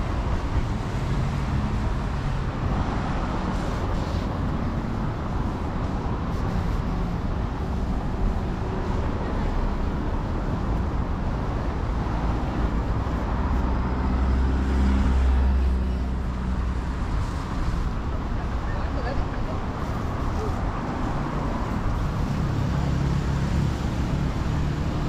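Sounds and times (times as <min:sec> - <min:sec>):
hum of road traffic: 0:00.0 - 0:25.0
vehicle engine rumble: 0:00.0 - 0:25.0.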